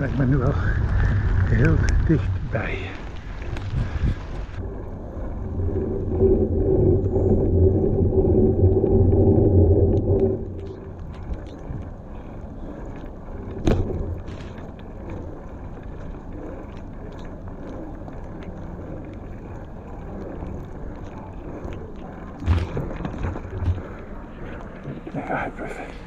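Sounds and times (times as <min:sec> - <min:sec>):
bicycle tyres rolling on wet stone: 0:00.0 - 0:26.0.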